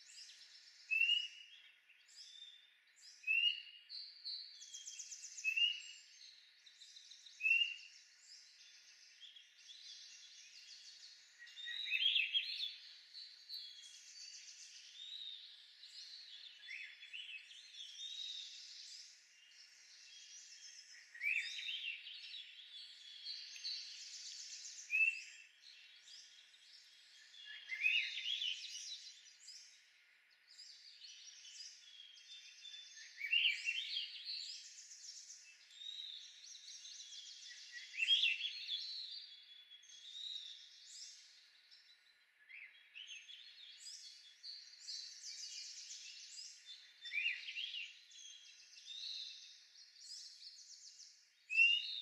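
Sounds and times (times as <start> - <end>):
songbirds singing: 0.0 - 52.0.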